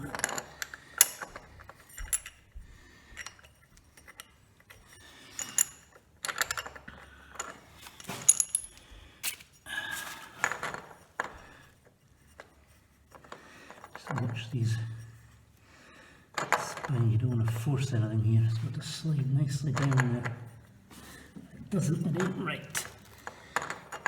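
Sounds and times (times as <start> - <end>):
small metal parts clinking: 0.0 - 15.3, 19.6 - 24.0.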